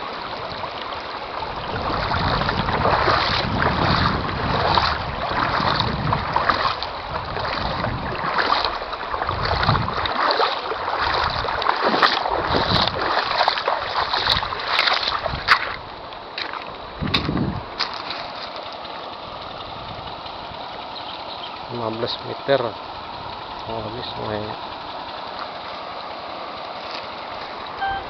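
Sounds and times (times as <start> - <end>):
water splashing over stones: 0.0 - 28.0.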